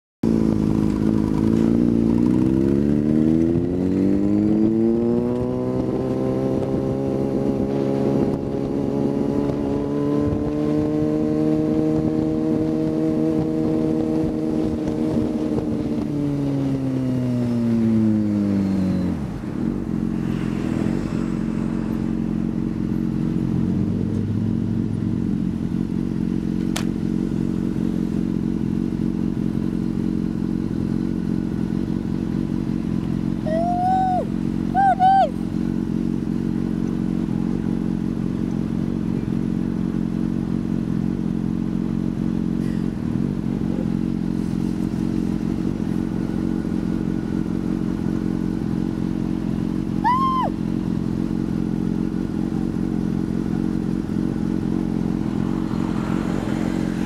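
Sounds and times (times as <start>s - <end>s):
motorcycle engine: 0.2s - 57.0s.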